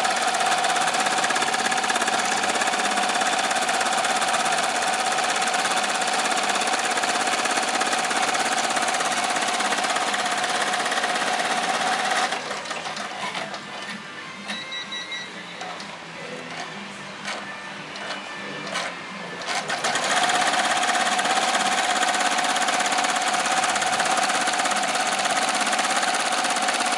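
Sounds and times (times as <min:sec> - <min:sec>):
embroidery machine stitching: 0:00.0 - 0:14.0, 0:18.0 - 0:26.9.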